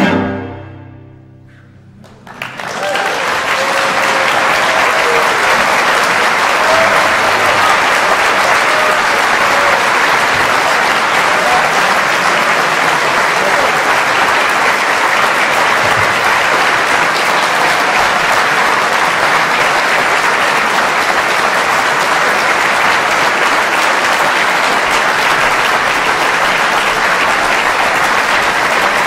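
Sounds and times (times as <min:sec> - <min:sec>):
audience applauding: 0:01.8 - 0:29.0.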